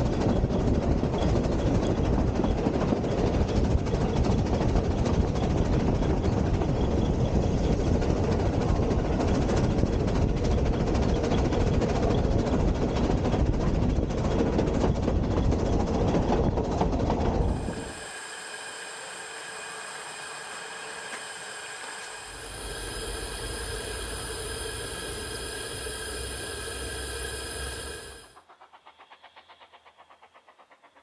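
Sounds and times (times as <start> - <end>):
train wheels rumbling and rattling: 0.0 - 31.0.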